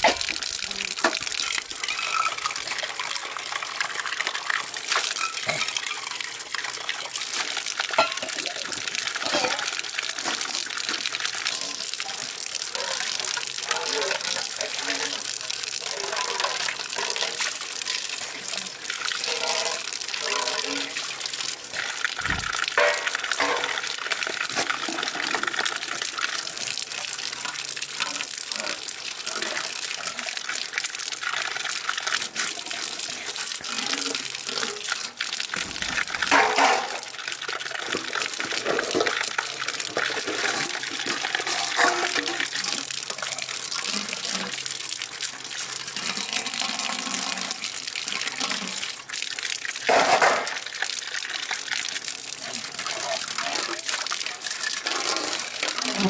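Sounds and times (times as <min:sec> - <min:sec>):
water running: 0:00.0 - 0:56.0.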